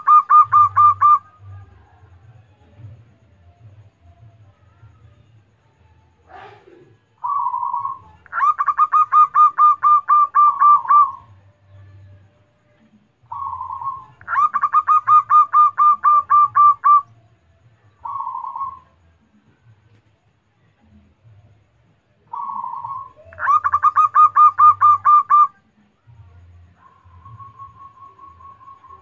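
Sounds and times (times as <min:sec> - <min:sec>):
dove cooing song: 0:00.0 - 0:03.0, 0:06.2 - 0:20.1, 0:22.1 - 0:29.0.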